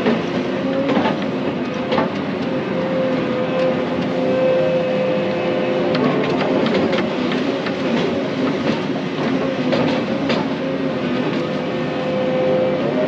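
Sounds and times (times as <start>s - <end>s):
excavator engine and hydraulics whining: 0.0s - 13.0s.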